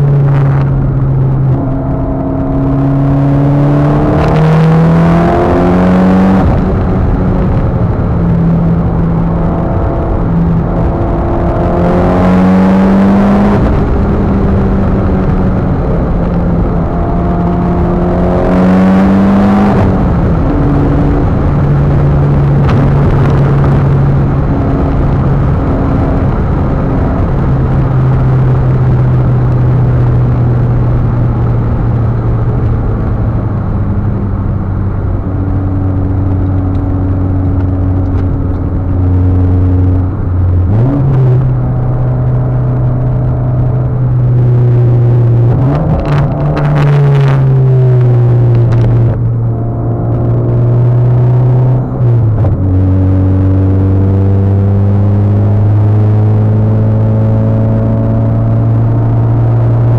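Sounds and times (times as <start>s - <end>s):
turbocharged car engine revving: 0.0s - 59.9s.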